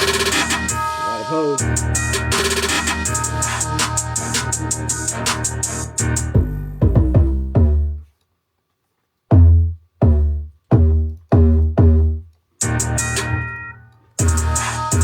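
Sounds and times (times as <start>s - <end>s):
hip-hop beat with drums: 0.0s - 8.0s, 9.3s - 13.6s, 14.2s - 15.0s.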